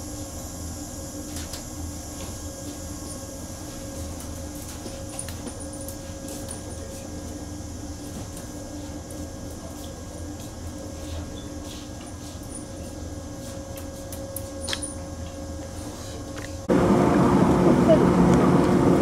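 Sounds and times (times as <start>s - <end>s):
train humming drone: 0.0s - 19.0s.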